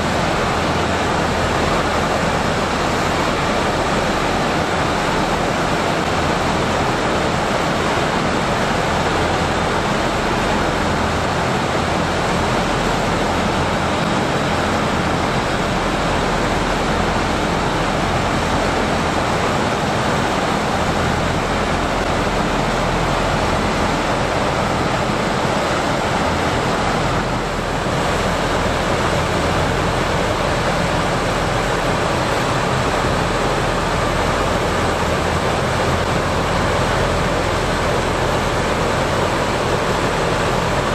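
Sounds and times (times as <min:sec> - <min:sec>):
hovercraft loud rushing noise: 0:00.0 - 0:40.9.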